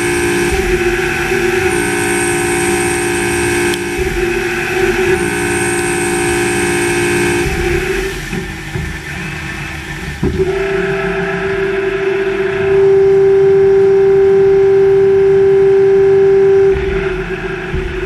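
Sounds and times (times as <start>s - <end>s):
machine whine: 0.0s - 18.0s
rough low machine noise: 0.0s - 18.0s.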